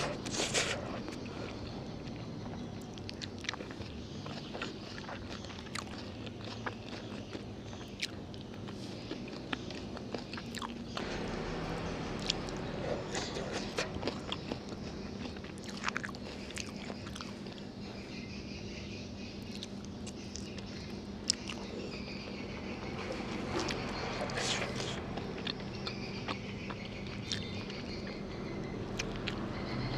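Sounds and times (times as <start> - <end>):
person chewing food: 0.0 - 11.4, 12.1 - 17.8, 19.4 - 22.0, 22.9 - 29.5.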